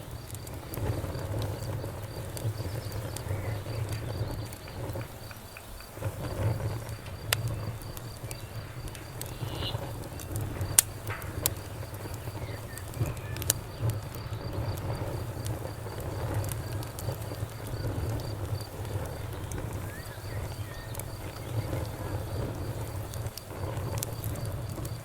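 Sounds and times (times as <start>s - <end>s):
campfire crackling and popping: 0.0s - 25.0s
cricket chirping: 0.0s - 25.0s.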